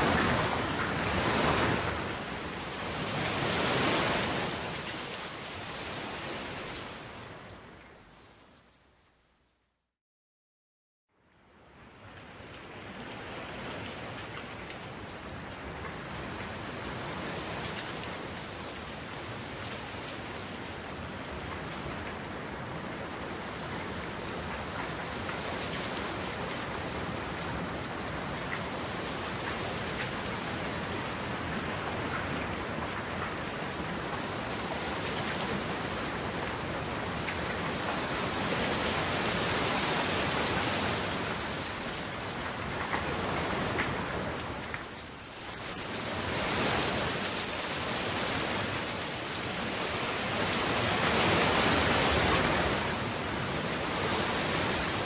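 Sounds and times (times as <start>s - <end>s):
steady rain falling: 0.0s - 9.7s, 11.2s - 55.0s.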